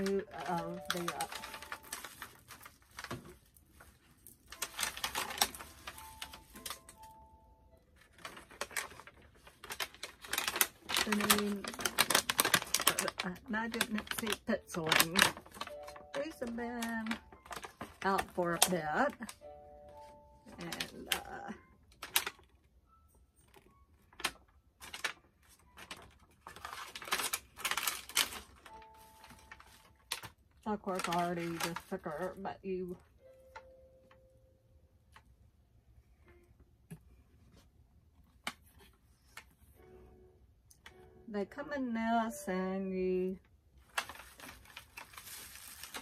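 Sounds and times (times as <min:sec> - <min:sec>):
plastic bag and foil crinkling: 0:00.0 - 0:34.2, 0:42.3 - 0:46.0
plastic packaging crackling: 0:00.0 - 0:34.2, 0:43.3 - 0:46.0.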